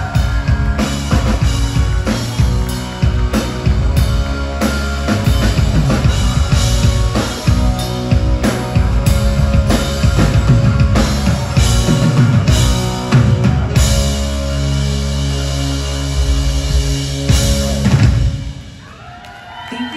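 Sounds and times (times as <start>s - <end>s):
live rock band playing: 0.0s - 18.8s.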